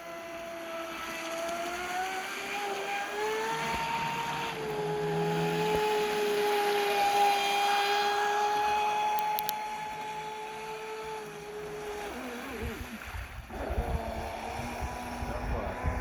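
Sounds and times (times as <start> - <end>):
model boat motor whining: 0.0 - 16.0.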